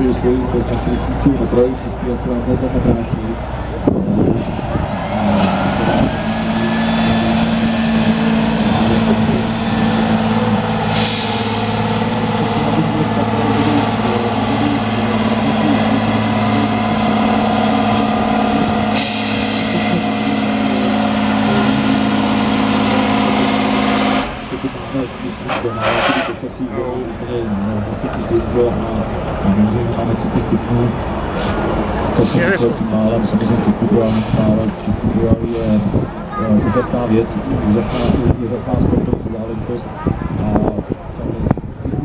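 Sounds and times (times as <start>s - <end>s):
truck diesel engine under load: 0.0s - 42.0s.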